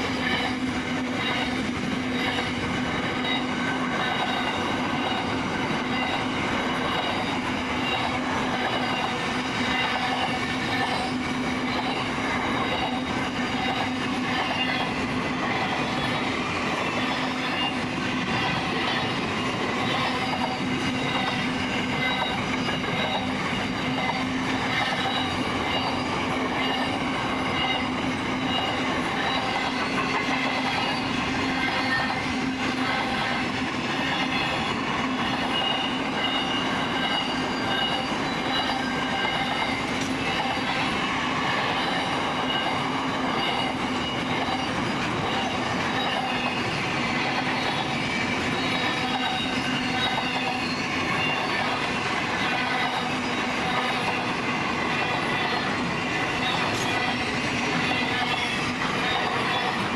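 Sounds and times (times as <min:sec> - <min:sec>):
train wagons rolling on rails: 0:00.0 - 0:59.9.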